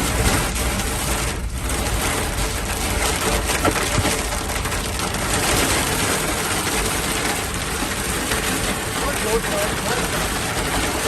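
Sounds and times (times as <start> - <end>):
car engine: 0.0 - 11.0
hail drumming on a car: 0.0 - 11.0
rain rushing: 0.0 - 11.0.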